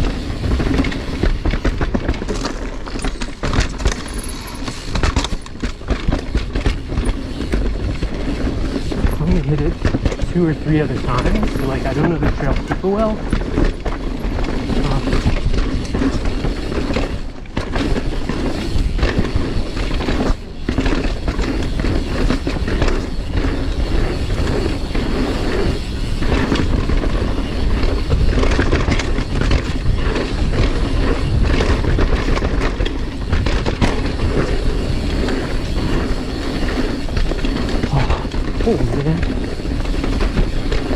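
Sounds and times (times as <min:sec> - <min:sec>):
bike rattling over bumps: 0:00.0 - 0:40.9
bike tyres rolling on dirt: 0:00.0 - 0:40.9.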